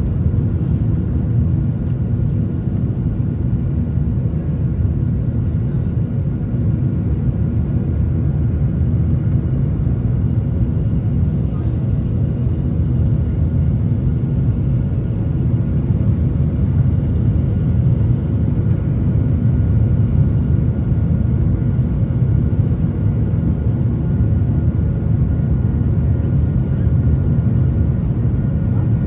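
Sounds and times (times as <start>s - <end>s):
jet engine hum: 0.0s - 29.0s.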